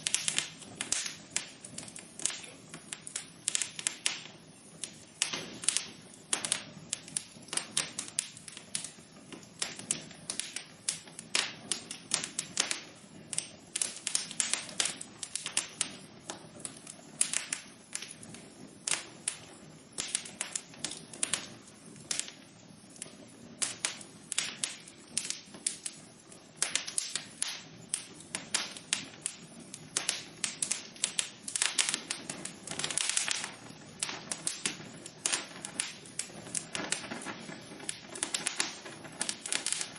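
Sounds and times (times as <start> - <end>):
low hiss of flames: 0.0 - 39.9
wood fire crackling and popping: 0.0 - 39.9.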